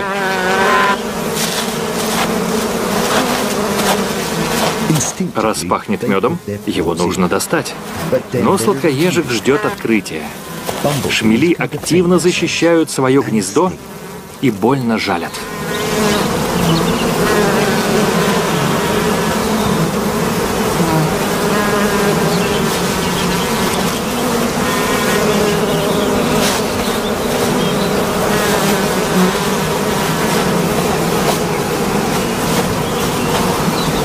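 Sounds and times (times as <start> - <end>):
bumblebees buzzing: 0.0 - 34.0.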